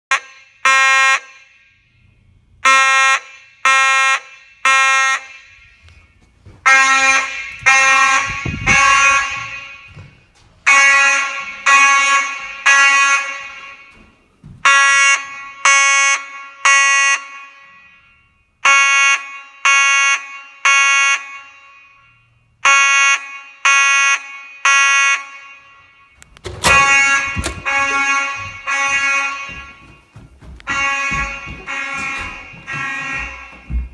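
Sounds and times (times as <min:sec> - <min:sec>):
fire alarm beeps: 0:00.1 - 0:33.9.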